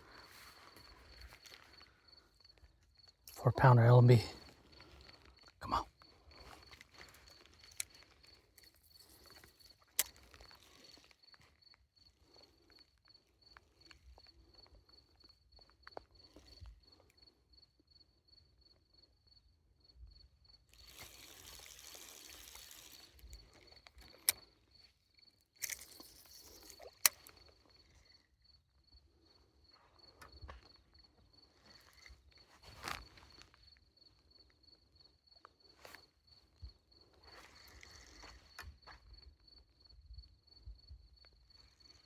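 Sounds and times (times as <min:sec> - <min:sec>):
cricket chirping: 0:00.0 - 0:42.0.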